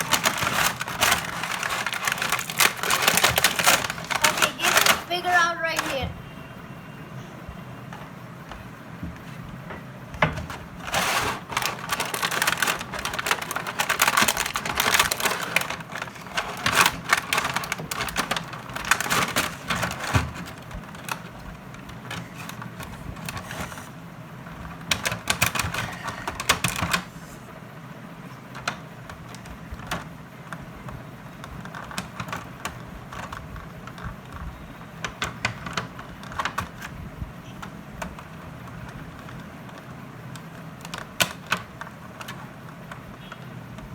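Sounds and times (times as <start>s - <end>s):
packaging rustling and clicking: 0.0s - 6.1s, 7.9s - 27.2s, 28.4s - 43.9s.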